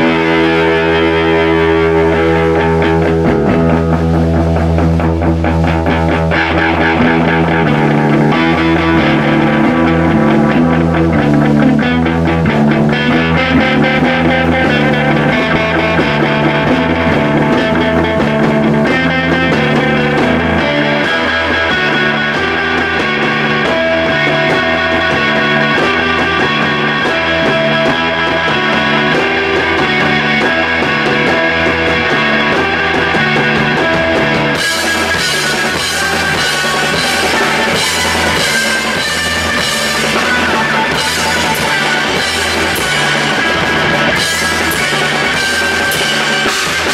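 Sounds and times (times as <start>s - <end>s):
bass guitar riffing: 0.0s - 46.9s
drum kit: 0.0s - 46.9s
guitar riffing: 0.0s - 46.9s.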